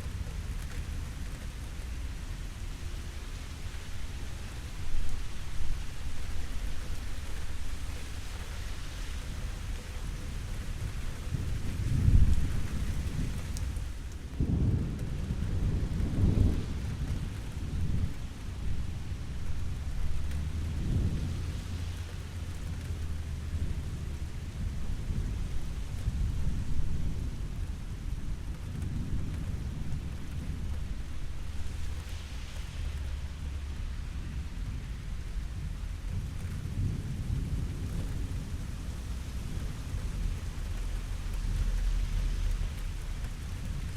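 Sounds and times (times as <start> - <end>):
steady rain falling: 0.0 - 43.9
low thunder rumbles: 2.9 - 43.9.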